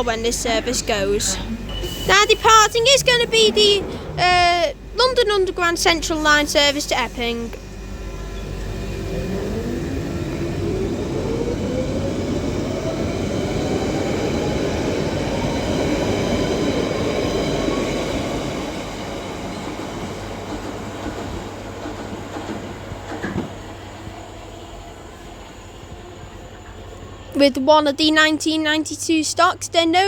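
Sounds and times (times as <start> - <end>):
train motors whining: 0.0 - 27.6
wheels rumbling on rail: 0.0 - 28.8.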